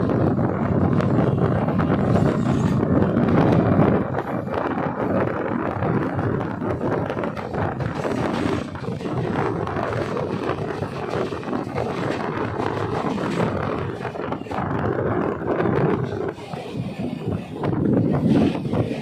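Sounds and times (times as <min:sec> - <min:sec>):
electric train rumbling and rattling: 0:00.0 - 0:19.0
wind buffeting microphone: 0:00.0 - 0:19.0.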